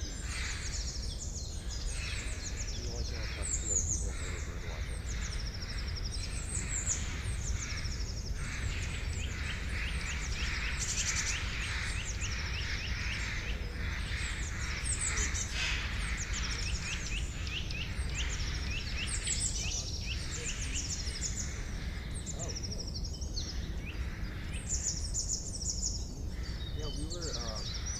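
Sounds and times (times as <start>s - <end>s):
forest birds chirping: 0.0s - 27.9s.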